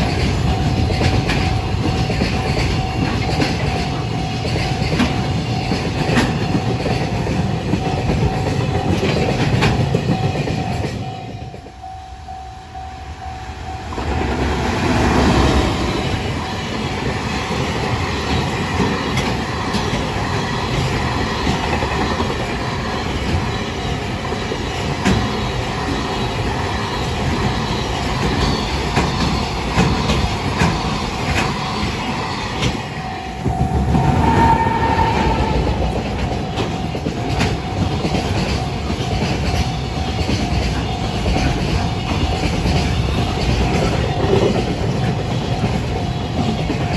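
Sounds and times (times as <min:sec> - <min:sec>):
train wheels clattering over rails: 0:00.0 - 0:11.8, 0:13.9 - 0:46.9
crossing warning bell ringing: 0:00.0 - 0:46.9
electric locomotive passing: 0:00.0 - 0:46.9.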